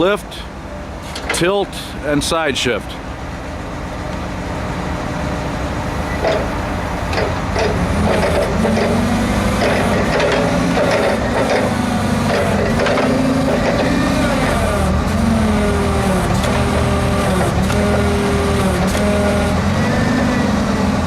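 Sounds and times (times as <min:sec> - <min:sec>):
forklift engine running: 0:00.0 - 0:21.0.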